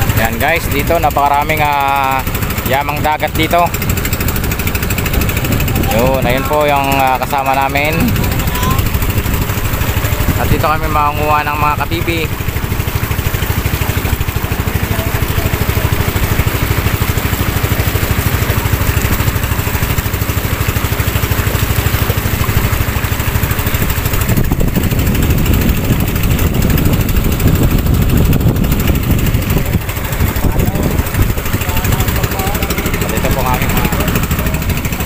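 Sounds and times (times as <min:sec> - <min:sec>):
boat engine running: 0:00.0 - 0:35.0
water splashing along hull: 0:00.0 - 0:35.0.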